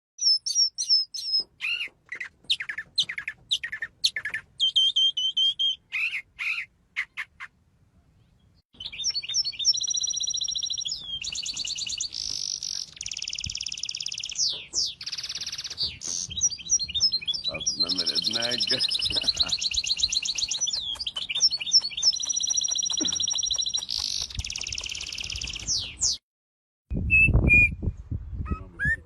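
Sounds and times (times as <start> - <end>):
bird chirps and whistles: 0.2 - 7.3, 8.8 - 26.2, 26.9 - 29.0.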